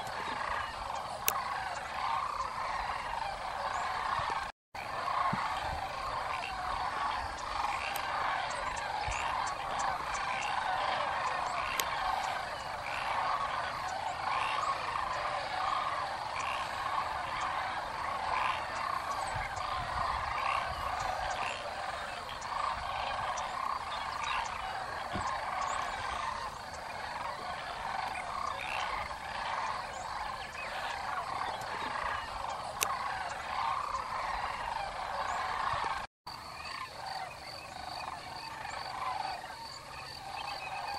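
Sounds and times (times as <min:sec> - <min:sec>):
chorus of wetland animals calling: 0:00.0 - 0:40.9.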